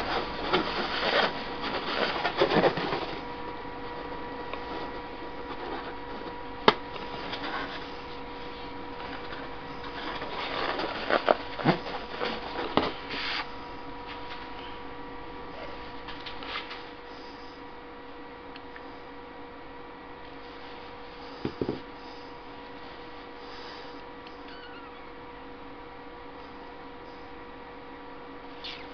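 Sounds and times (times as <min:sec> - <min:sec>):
electrical hum: 0:00.0 - 0:28.9.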